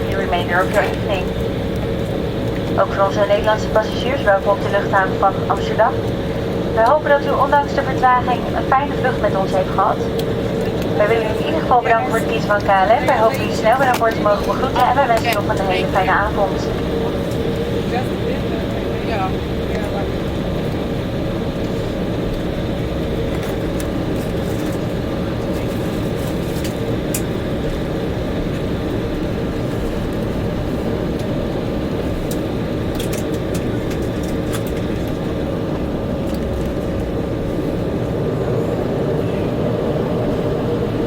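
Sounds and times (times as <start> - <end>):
aircraft cabin drone: 0.0 - 41.0.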